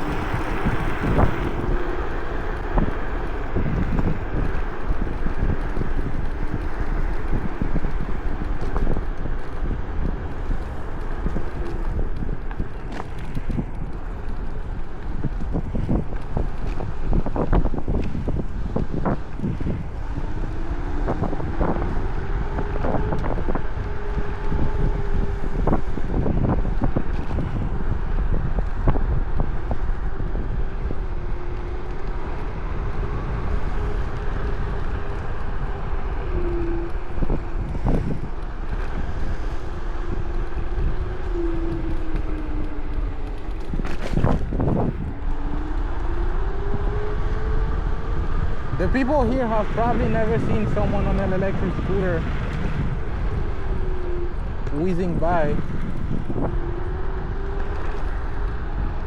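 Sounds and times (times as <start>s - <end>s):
electric scooter motor whining: 0.0s - 59.0s
wind noise on microphone: 0.0s - 59.0s.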